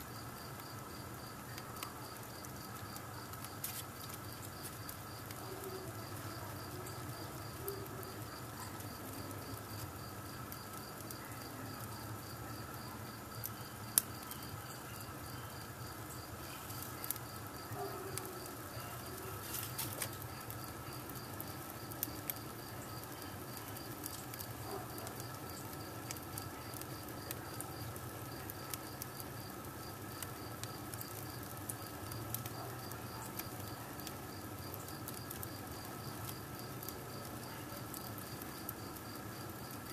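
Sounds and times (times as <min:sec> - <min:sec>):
fire crackling: 0:00.0 - 0:39.9
sharp pops of fire: 0:00.0 - 0:39.9.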